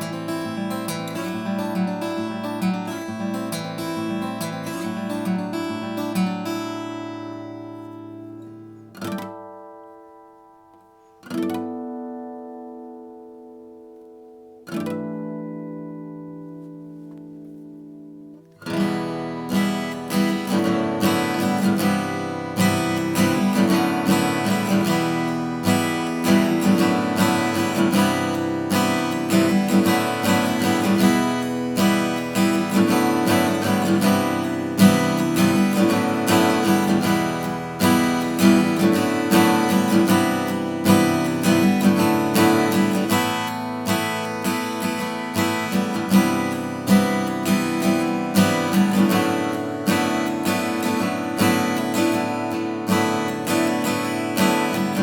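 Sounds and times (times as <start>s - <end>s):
acoustic guitar strummed chords: 0.0s - 55.0s.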